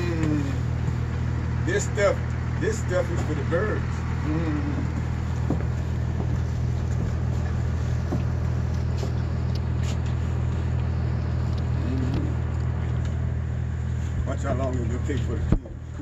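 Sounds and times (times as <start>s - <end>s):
motor droning: 0.0s - 16.0s.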